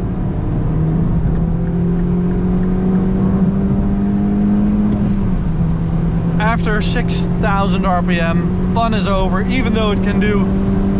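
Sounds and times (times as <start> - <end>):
car engine accelerating from inside: 0.0 - 10.9.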